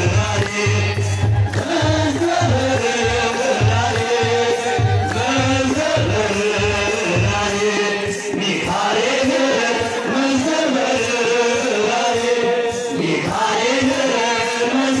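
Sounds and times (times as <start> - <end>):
men chanting in slow melody: 0.0 - 15.0.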